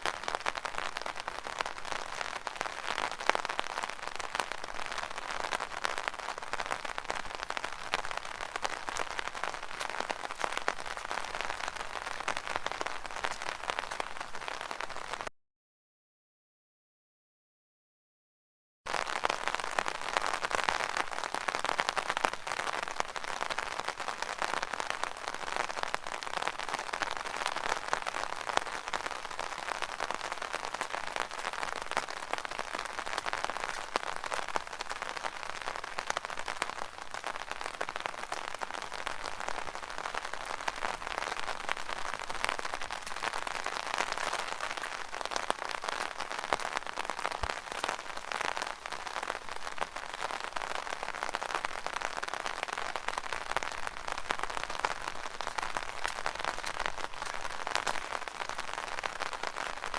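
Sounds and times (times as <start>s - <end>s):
heavy rain on an umbrella: 0.0s - 15.3s, 18.9s - 59.9s.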